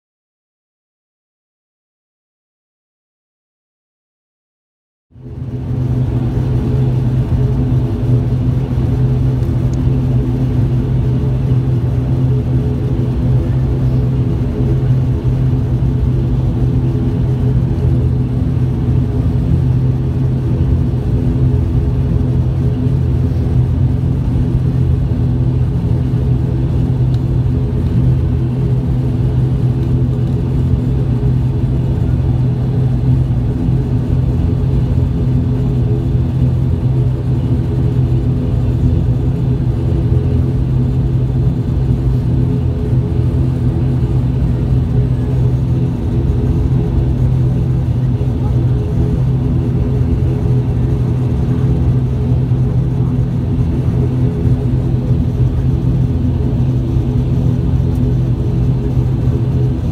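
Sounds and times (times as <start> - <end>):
turboprop engines droning: 5.1 - 59.9.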